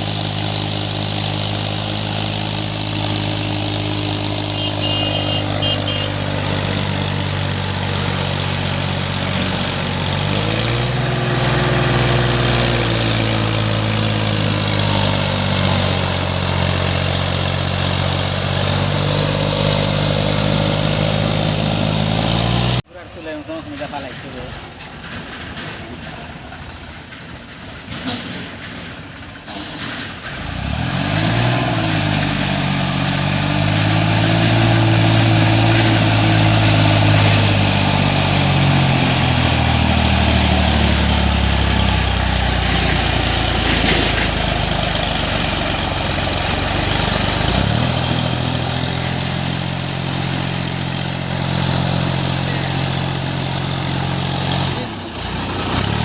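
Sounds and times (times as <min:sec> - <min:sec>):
tractor engine labouring: 0:00.0 - 0:56.0.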